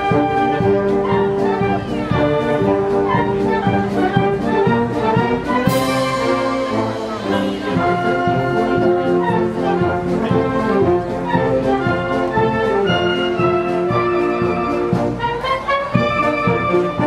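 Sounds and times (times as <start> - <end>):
wind band playing a march: 0.0 - 17.0.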